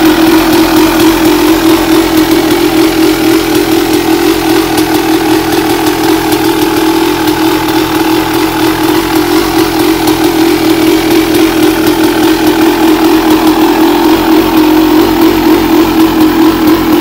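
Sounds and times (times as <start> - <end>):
two-stroke engine idling: 0.0 - 17.0.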